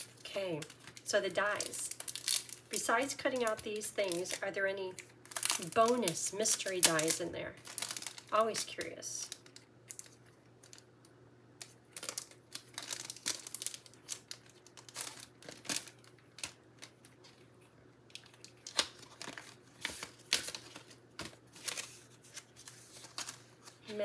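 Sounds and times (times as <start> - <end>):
plastic packaging crinkling: 0.0 - 24.0.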